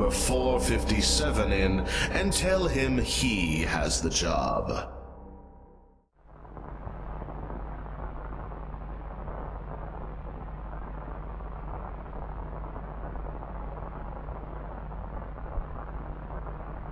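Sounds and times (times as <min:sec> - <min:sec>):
dark ambient rumble: 0:00.0 - 0:16.9
low hum: 0:00.0 - 0:16.9.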